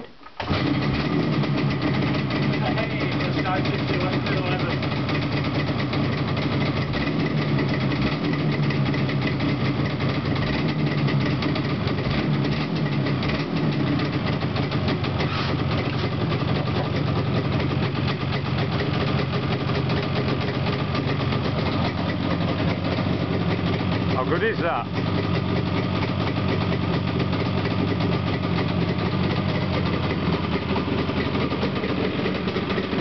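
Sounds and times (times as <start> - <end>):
two-stroke engine idling: 0.4 - 33.0.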